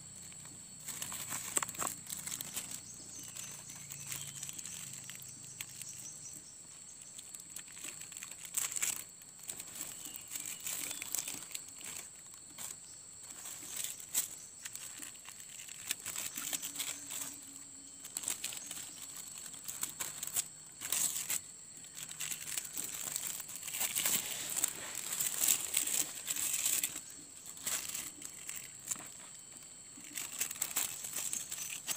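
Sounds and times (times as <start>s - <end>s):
plastic strip crinkling: 0.8s - 29.3s, 30.0s - 31.9s.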